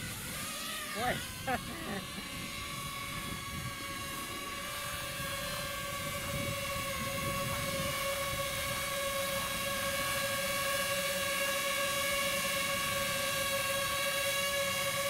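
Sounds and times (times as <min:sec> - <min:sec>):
quadcopter propeller whine: 0:00.0 - 0:15.0.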